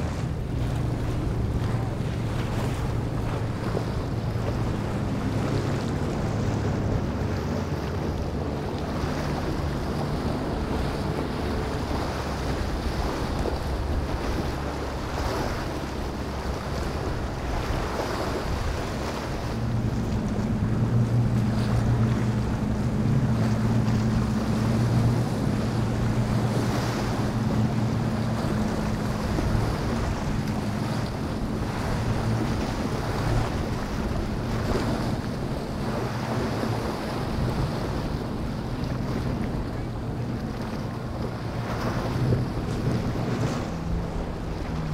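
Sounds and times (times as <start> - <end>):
motorboat engines droning: 0.0 - 44.9
waves and surf rushing: 0.0 - 44.9
wind buffeting microphone: 0.0 - 44.9.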